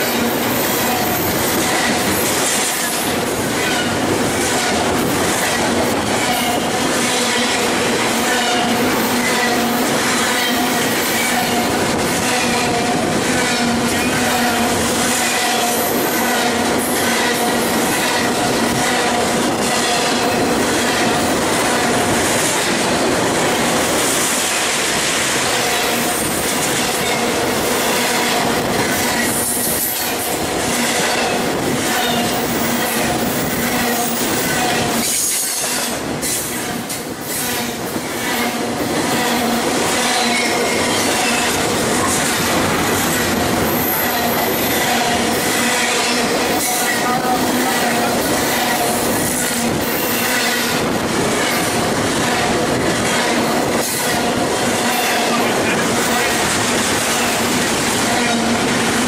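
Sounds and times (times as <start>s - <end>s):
train wheels rushing on rail: 0.0s - 59.0s.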